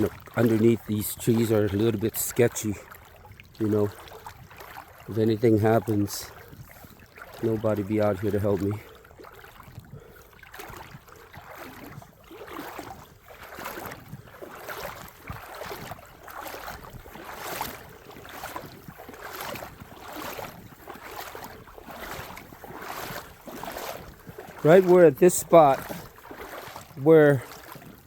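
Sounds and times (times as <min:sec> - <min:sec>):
crunching footsteps outdoors: 0:00.0 - 0:28.0.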